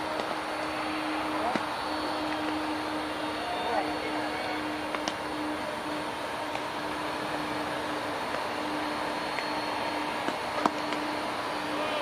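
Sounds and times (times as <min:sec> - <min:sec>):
jet engines rushing: 0:00.0 - 0:12.0
low steady hum: 0:00.0 - 0:12.0.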